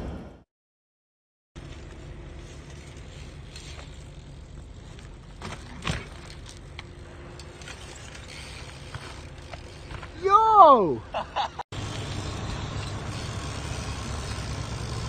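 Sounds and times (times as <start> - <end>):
bike rolling on pavement: 1.6 - 10.4, 11.8 - 15.0.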